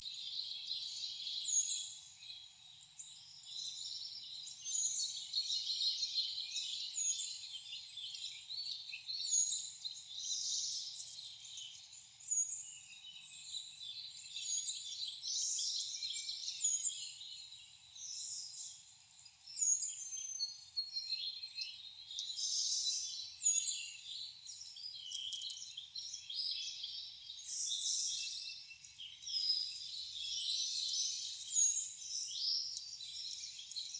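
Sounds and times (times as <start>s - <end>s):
songbirds chirping and singing: 0.0s - 33.9s.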